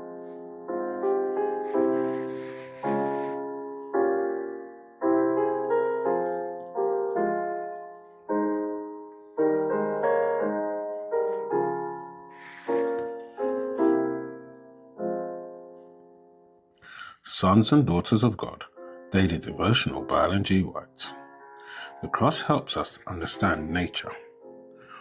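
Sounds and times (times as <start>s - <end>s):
solo piano chords: 0.0s - 16.8s, 17.8s - 25.0s.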